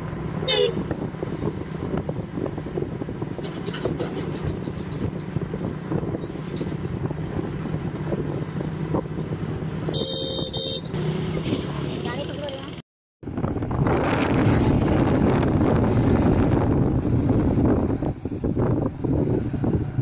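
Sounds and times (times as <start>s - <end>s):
road rumble: 0.0s - 20.0s
vehicle engine hum: 0.0s - 20.0s.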